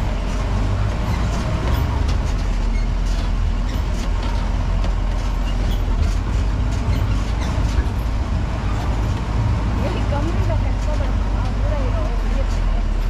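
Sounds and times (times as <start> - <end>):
vehicle engine and road rumble: 0.0 - 13.0
vehicle rattles and knocks: 0.0 - 13.0.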